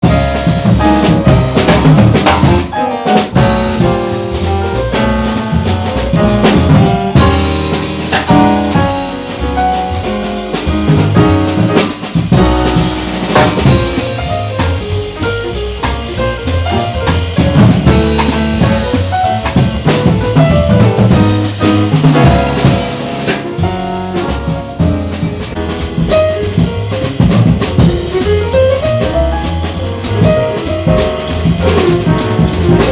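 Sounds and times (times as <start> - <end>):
bass: 0.0 - 32.9
drum kit cymbals and drums: 0.0 - 32.9
piano: 0.0 - 32.9.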